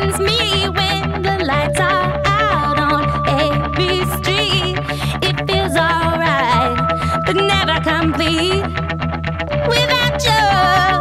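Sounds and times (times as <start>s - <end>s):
melody with wavering notes: 0.0s - 11.0s
steady bass: 0.0s - 11.0s.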